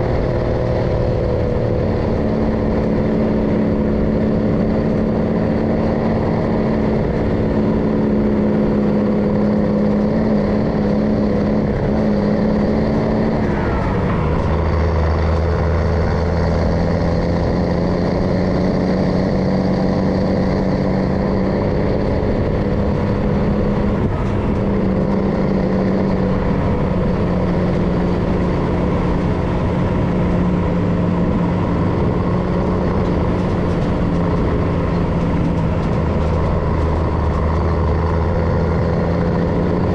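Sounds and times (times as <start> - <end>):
truck diesel engine running: 0.0 - 39.9
tyre and road rumble: 0.0 - 39.9.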